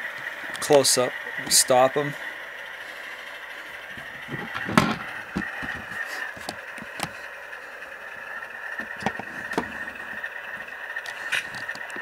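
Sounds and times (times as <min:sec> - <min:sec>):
model diesel engine idle sound: 0:00.0 - 0:12.0.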